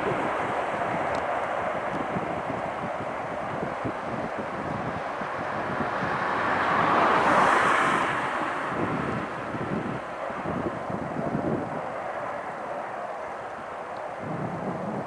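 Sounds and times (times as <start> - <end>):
jet engine passing: 0.0 - 12.9
wind buffeting microphone: 0.0 - 15.0.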